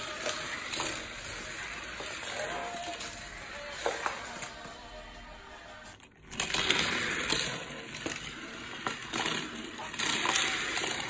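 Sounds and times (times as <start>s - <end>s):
toy cars rattling down plastic ramps: 0.0s - 4.8s, 6.0s - 11.0s.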